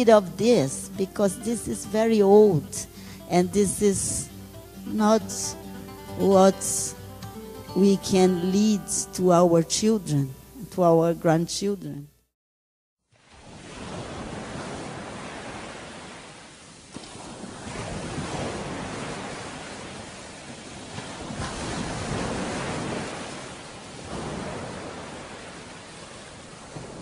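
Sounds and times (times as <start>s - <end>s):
ocean waves washing: 0.0s - 10.6s, 13.1s - 27.0s.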